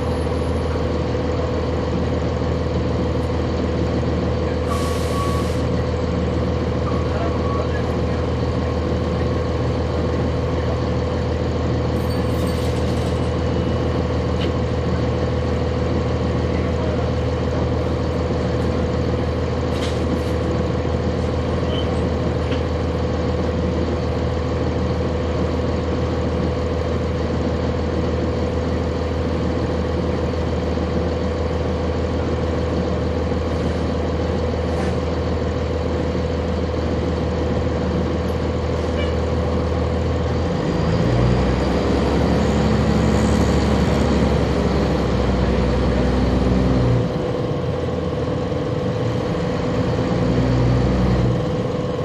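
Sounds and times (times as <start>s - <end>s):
bus diesel engine drone: 0.0s - 52.0s.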